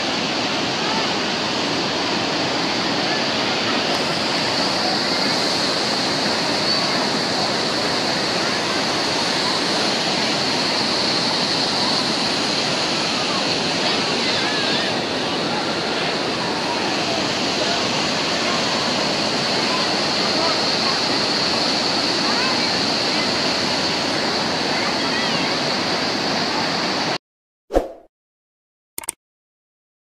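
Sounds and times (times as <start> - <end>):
waterfall rushing: 0.0 - 27.2
faint voices: 0.1 - 26.7.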